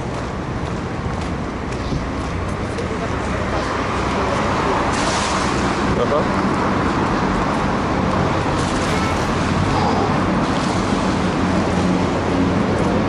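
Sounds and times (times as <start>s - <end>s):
heavy highway traffic: 0.0s - 13.0s.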